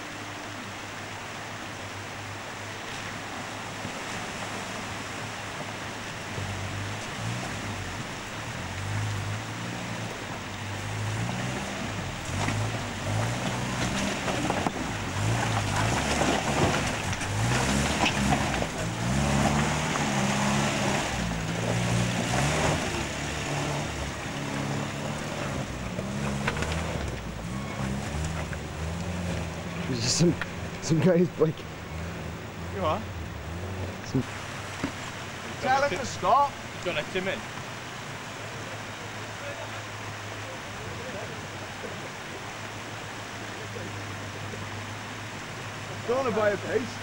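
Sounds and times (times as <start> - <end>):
off-road vehicle engine revving: 0.0 - 47.0
water splashing: 0.0 - 47.0.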